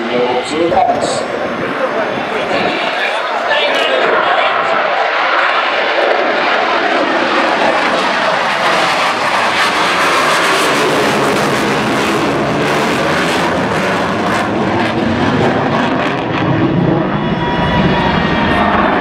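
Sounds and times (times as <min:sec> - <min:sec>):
aircraft engine roar: 0:00.0 - 0:19.0.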